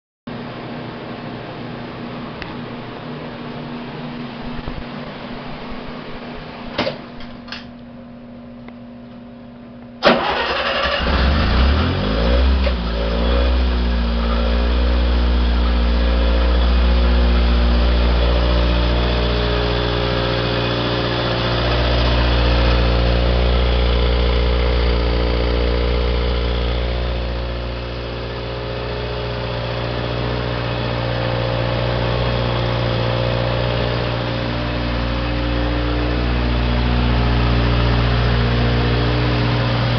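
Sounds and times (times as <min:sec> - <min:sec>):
generator engine starting and running: 0:00.3 - 0:39.9.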